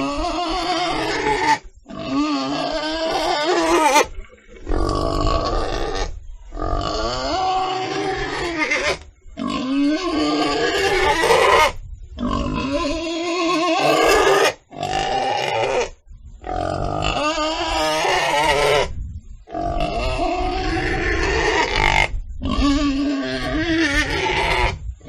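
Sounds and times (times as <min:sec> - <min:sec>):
pigs grunting: 0:00.0 - 0:18.9, 0:19.5 - 0:24.8.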